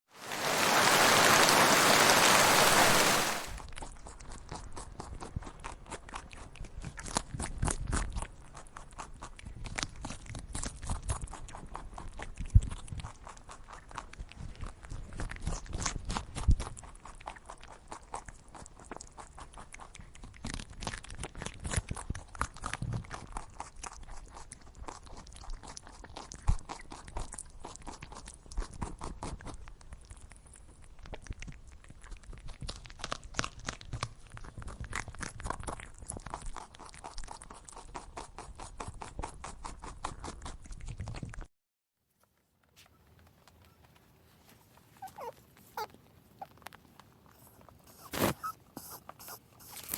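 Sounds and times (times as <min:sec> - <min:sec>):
rabbit chewing food: 0:02.2 - 0:41.5, 0:42.3 - 0:49.9.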